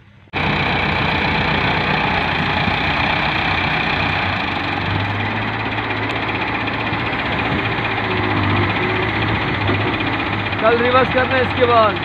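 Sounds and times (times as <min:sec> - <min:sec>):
excavator diesel engine running: 0:00.0 - 0:12.0
tractor diesel engine running: 0:00.0 - 0:12.0.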